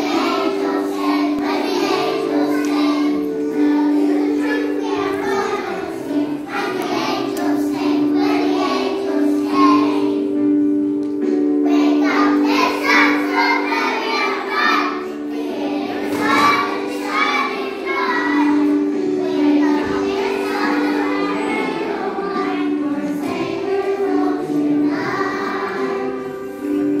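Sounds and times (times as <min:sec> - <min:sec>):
children singing: 0:00.0 - 0:27.0
musical accompaniment: 0:00.0 - 0:27.0.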